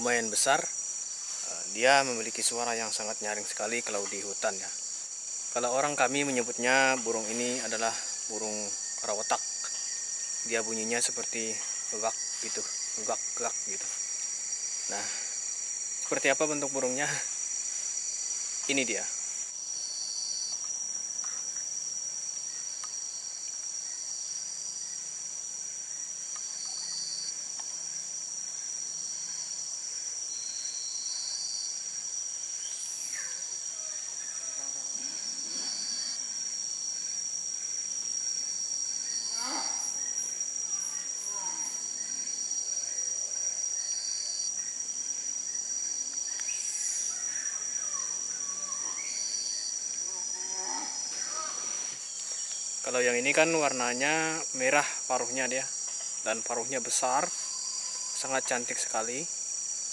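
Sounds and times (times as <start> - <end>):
high-pitched insect drone: 0.0 - 59.9
insect buzzing on and off: 0.0 - 59.9.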